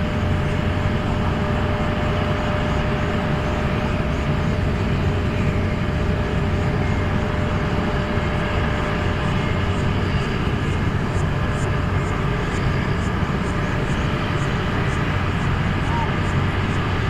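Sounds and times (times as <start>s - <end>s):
jet aircraft rumble: 0.0s - 17.0s
thin constant whine: 0.0s - 17.0s.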